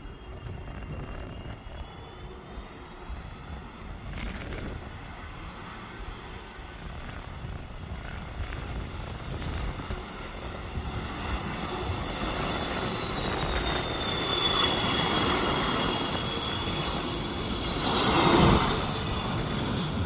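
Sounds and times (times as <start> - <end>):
jet airliner rumble and whine: 0.0 - 20.0.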